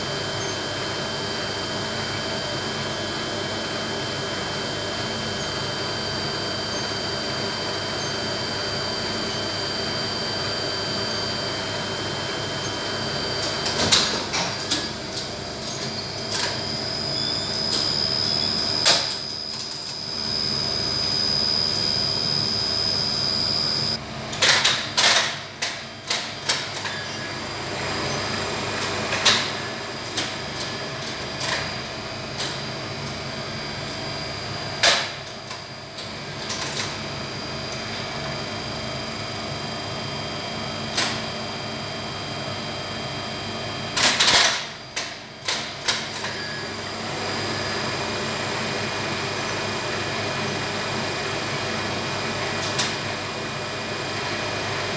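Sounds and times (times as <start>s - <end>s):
lift machine running hum: 0.0s - 54.9s.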